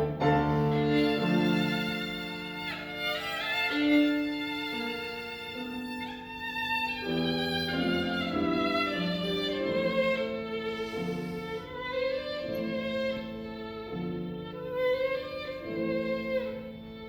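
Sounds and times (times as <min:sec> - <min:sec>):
violin melody: 0:00.0 - 0:17.0.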